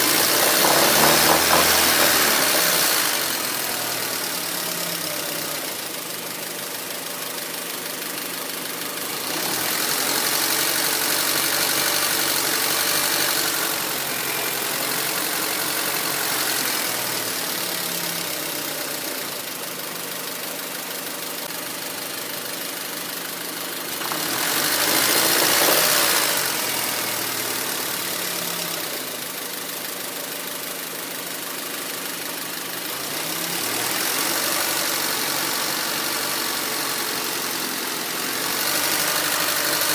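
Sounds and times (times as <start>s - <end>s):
car engine idling roughly: 0.0s - 39.9s.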